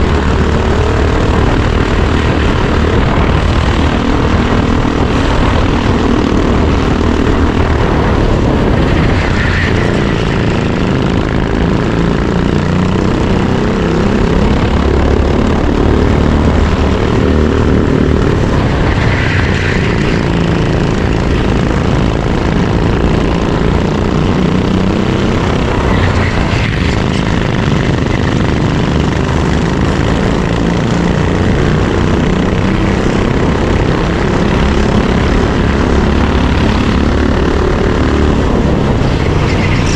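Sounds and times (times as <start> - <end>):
racing kart engine at speed: 0.0 - 39.9.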